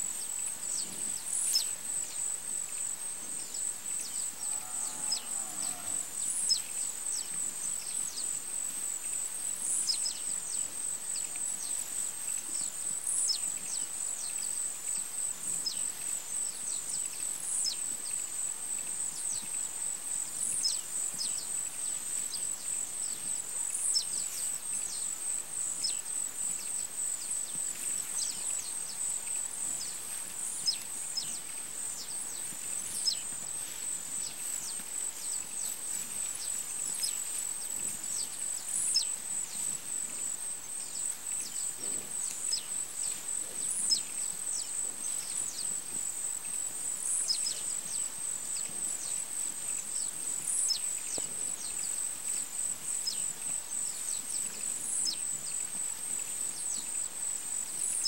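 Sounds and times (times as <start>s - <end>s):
high insect trill: 0.0s - 58.0s.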